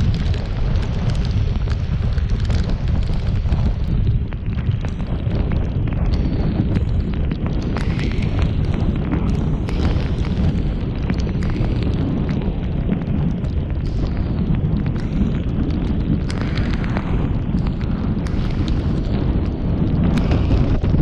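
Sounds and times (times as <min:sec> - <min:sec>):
rain striking microphone: 0:00.0 - 0:21.0
storm wind buffeting microphone: 0:00.0 - 0:21.0.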